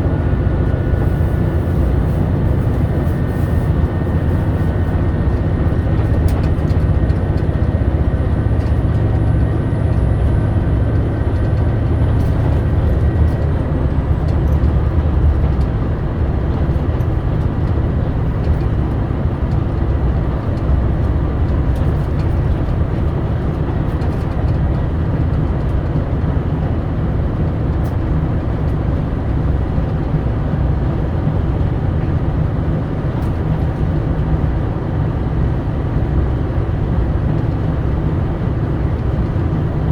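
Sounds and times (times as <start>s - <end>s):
railcar engine and wheels on rail: 0.0s - 39.9s.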